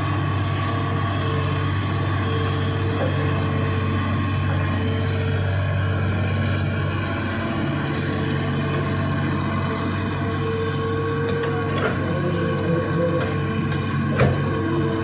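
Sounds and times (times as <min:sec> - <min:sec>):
diesel engine running: 0:00.0 - 0:15.0
high-pitched whine: 0:00.0 - 0:15.0.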